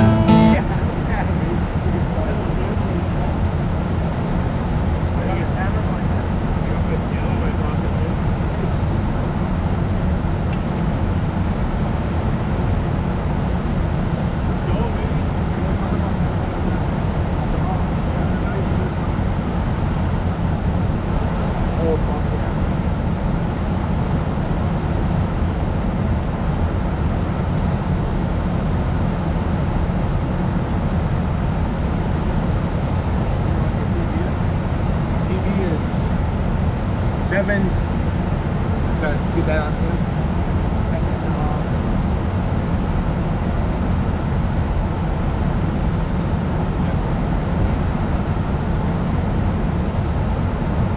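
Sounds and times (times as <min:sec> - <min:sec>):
wind rumble on microphone: 0:00.6 - 0:50.9.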